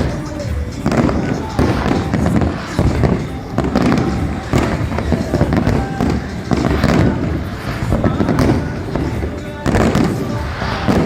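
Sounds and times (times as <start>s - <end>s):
crowd voices: 0.0s - 11.0s
fireworks booming: 0.0s - 11.0s.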